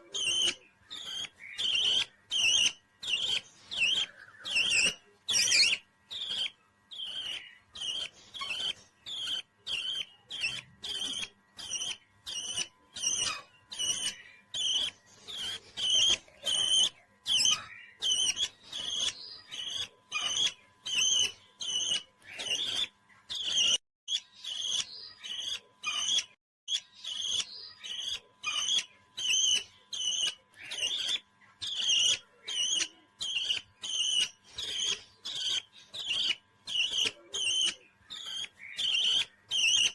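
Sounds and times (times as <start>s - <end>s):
parrot chirping: 0.0s - 39.9s.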